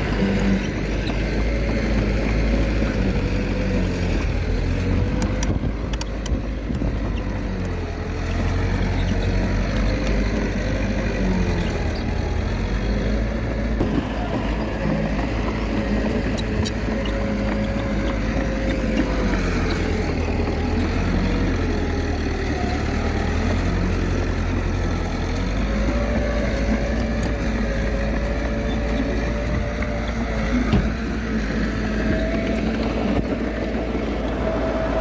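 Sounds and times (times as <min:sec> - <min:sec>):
bulldozer diesel engine working: 0:00.0 - 0:35.0.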